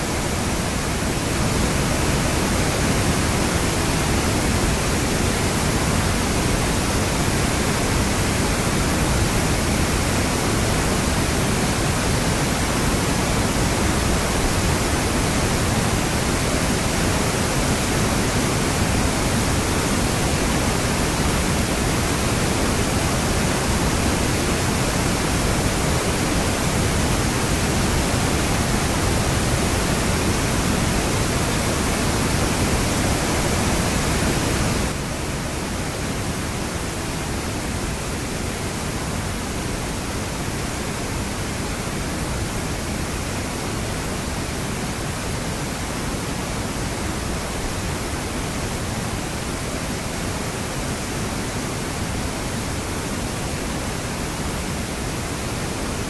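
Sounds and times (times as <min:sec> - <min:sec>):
river rushing over waterfall: 0:00.0 - 0:56.0.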